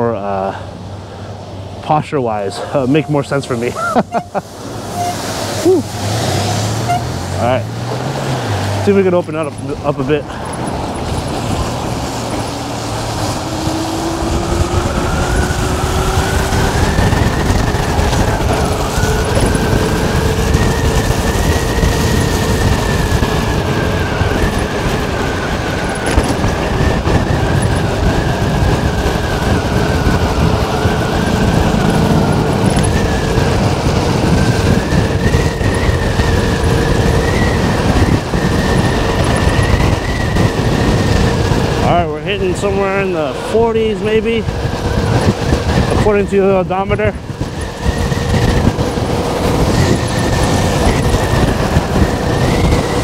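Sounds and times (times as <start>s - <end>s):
road noise: 0.0s - 53.0s
wind rush on microphone: 0.0s - 53.0s.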